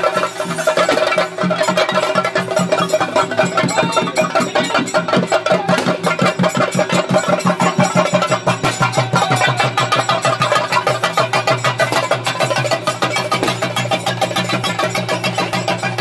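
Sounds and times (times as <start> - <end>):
cymbals: 0.0 - 16.0
rapid drumming: 0.0 - 16.0.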